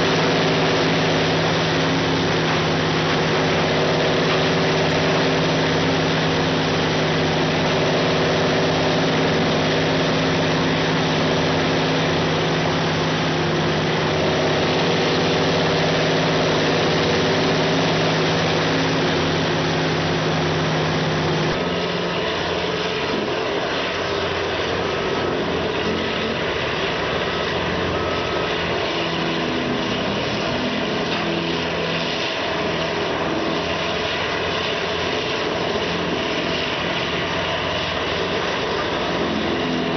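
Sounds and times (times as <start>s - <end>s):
diesel engine running: 0.0s - 39.9s
machine grinding wood: 0.0s - 39.9s.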